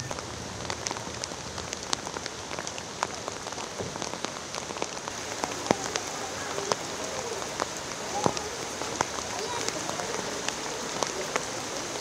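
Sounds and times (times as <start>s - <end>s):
rain hissing on water: 0.0s - 12.0s
raindrop ticks: 0.0s - 12.0s.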